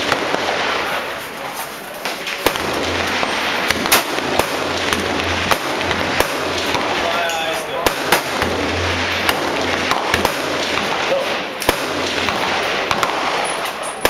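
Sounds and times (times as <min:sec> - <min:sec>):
rifle shots: 0:00.0 - 0:01.4, 0:02.0 - 0:14.0.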